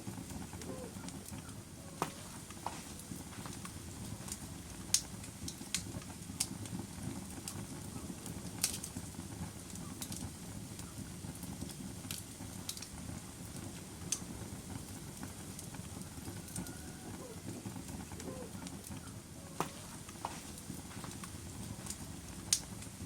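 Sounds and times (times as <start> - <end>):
fire crackles and pops: 0.0 - 23.0
low rush of flames: 0.0 - 23.0.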